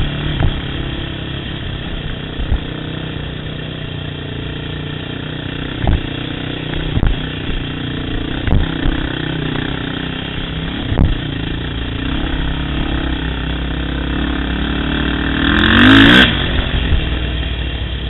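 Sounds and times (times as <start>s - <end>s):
quad engine running: 0.0s - 18.0s.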